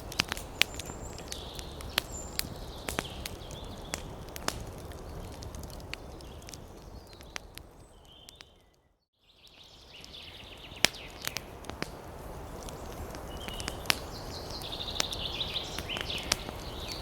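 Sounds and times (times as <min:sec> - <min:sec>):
wood fire crackling: 0:00.0 - 0:08.9, 0:09.5 - 0:17.0.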